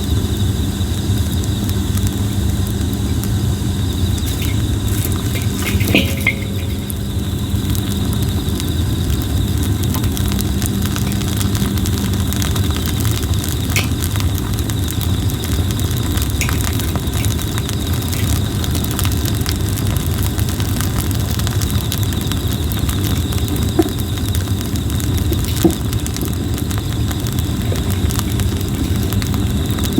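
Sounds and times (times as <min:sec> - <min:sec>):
campfire flames rushing: 0:00.0 - 0:29.9
wood crackling and popping: 0:00.4 - 0:29.9.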